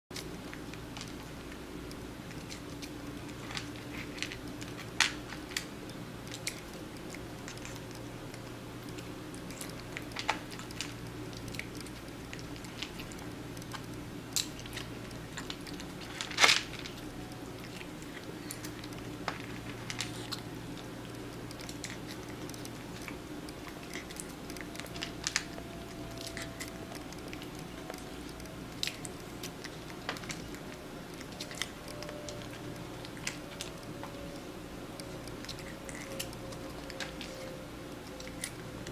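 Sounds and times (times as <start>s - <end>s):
kitten chewing and crunching food: 0.1s - 38.9s
steady low hum: 0.1s - 38.9s.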